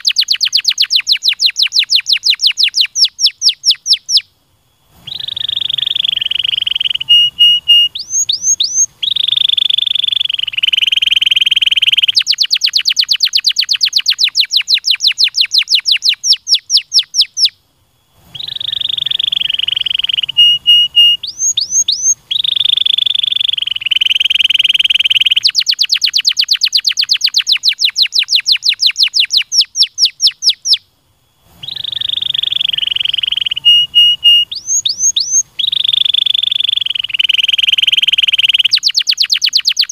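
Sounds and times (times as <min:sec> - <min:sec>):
canary singing: 0:00.0 - 0:04.3, 0:05.0 - 0:17.6, 0:18.3 - 0:30.9, 0:31.5 - 0:39.9.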